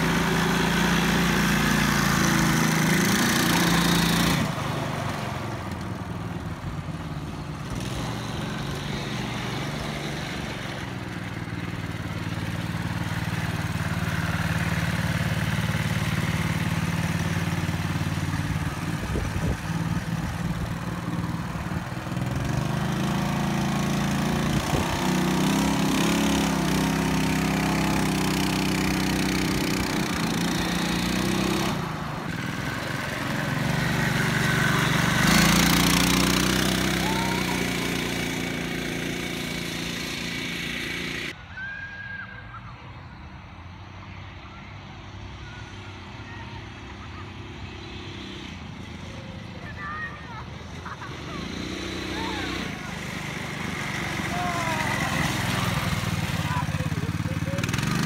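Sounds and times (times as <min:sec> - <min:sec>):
small quad engine revving: 0:00.0 - 0:41.4, 0:46.7 - 0:58.0.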